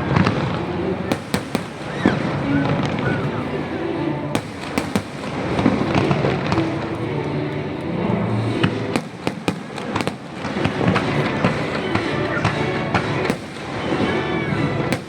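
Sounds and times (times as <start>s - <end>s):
rumble of firework bursts: 0.0s - 3.4s, 4.3s - 7.1s, 8.3s - 15.0s
fireworks bangs and crackles: 0.0s - 15.0s.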